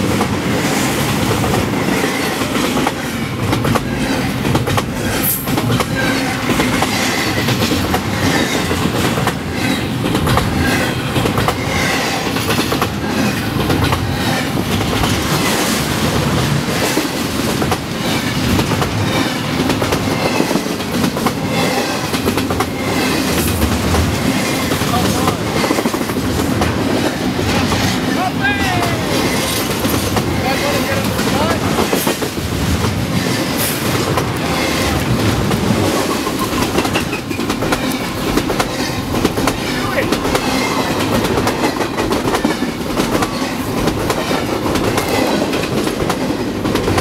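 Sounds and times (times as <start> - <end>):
train wheels rumbling on rails: 0.0 - 47.0
wheels clicking over rail joints: 0.1 - 47.0.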